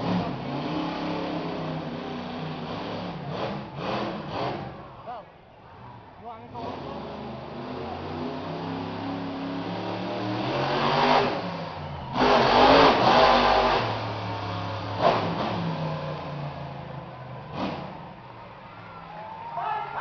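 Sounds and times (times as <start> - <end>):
truck engine revving: 0.0 - 19.1.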